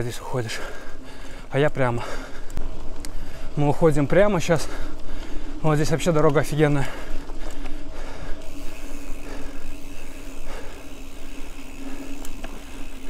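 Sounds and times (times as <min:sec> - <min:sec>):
bike tyres on dirt: 0:00.0 - 0:13.0
steady hum: 0:00.0 - 0:13.0.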